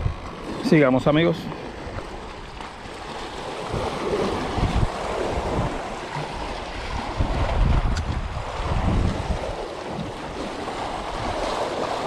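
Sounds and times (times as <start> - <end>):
waves splashing against rocks: 0.0 - 12.0
wind buffeting microphone: 0.0 - 12.0.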